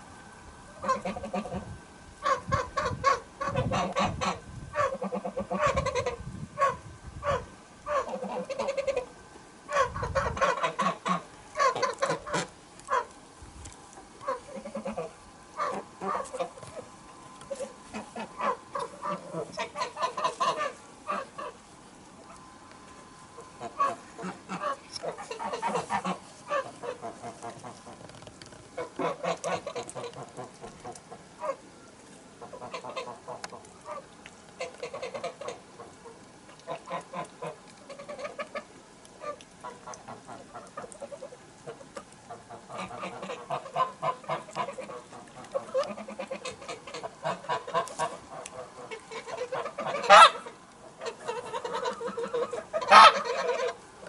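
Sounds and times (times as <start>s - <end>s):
geese honking and cackling: 0.7s - 13.2s, 13.9s - 28.0s, 28.7s - 54.0s.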